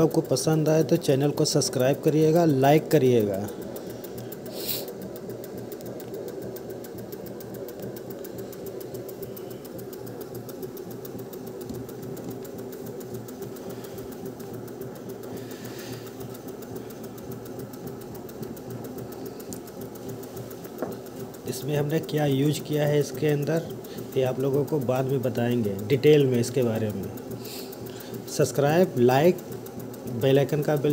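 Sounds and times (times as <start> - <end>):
alternator machine hum: 0.0 - 30.9.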